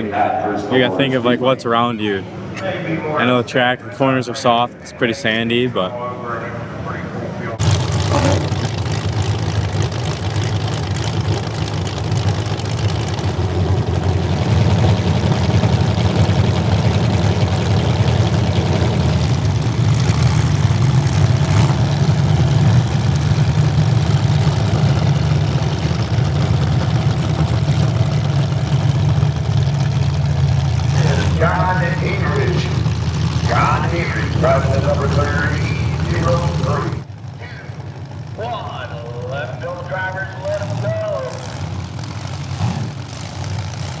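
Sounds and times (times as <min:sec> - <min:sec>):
car engines rumbling: 0:00.0 - 0:44.0.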